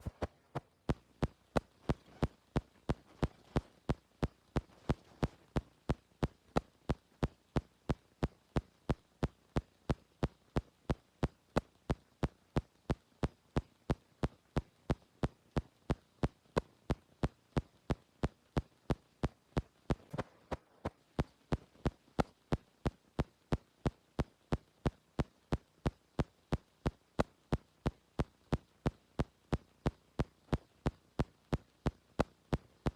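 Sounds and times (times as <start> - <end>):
faint steady hiss: 0.0 - 32.9.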